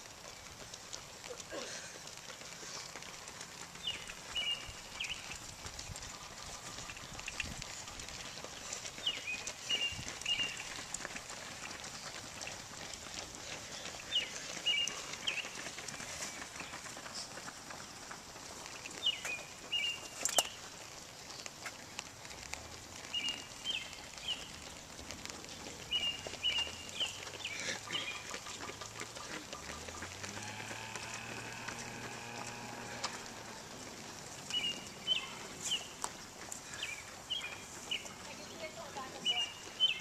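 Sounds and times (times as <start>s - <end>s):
footsteps on road: 0.0s - 40.0s
songbird chirping: 2.7s - 5.5s, 8.2s - 12.6s, 13.2s - 40.0s.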